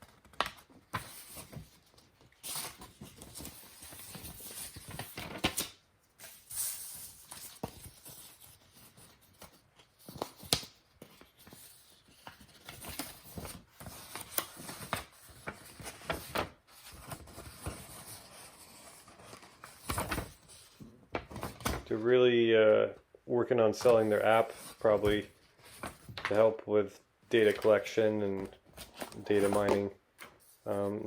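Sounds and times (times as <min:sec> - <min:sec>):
paper packaging rustling: 0:00.0 - 0:22.2, 0:23.7 - 0:26.5, 0:27.3 - 0:30.9.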